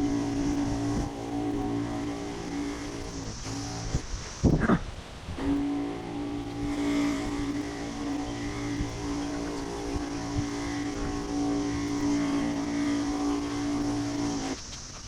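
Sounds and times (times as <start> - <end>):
sprayer pump humming: 0.0 - 15.0.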